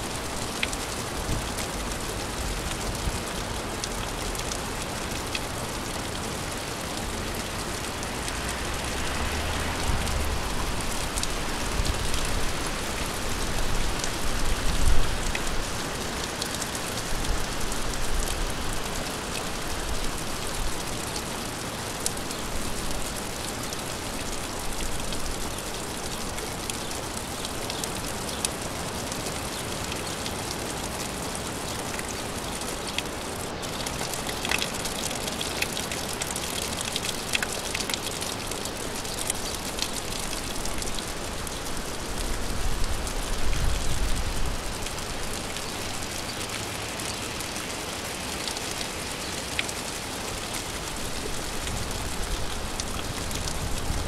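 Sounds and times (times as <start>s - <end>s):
raindrops ticking: 0.0s - 54.0s
steady rain hiss: 0.0s - 54.0s.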